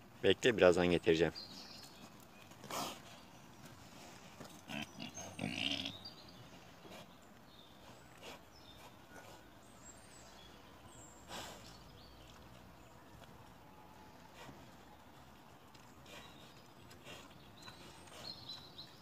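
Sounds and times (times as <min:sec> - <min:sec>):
wild boar grunting and sniffing: 0:01.3 - 0:13.3, 0:13.9 - 0:19.0.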